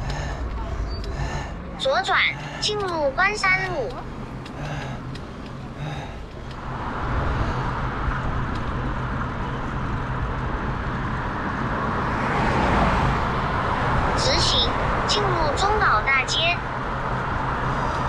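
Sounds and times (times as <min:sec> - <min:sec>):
rush of road noise: 0:00.0 - 0:18.0.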